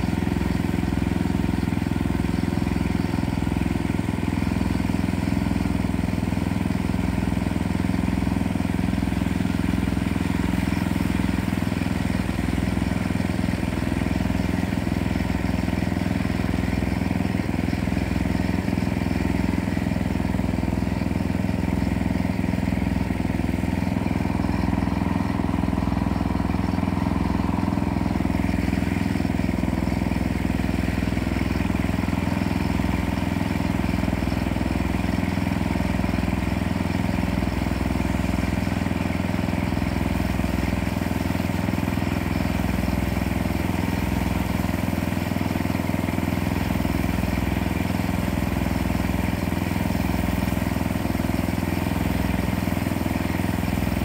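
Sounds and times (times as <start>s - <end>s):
small gasoline engine running: 0.0s - 54.0s.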